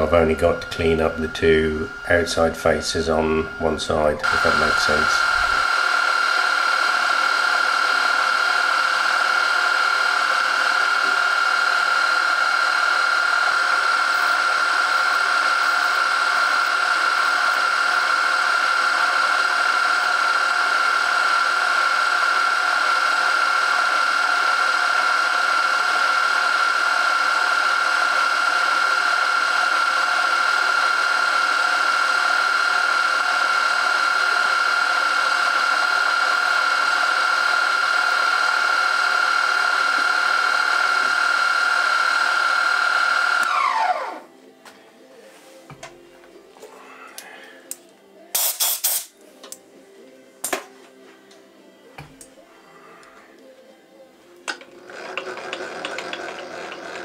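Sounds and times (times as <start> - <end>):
milling machine whining: 0.0 - 44.3, 54.3 - 57.0.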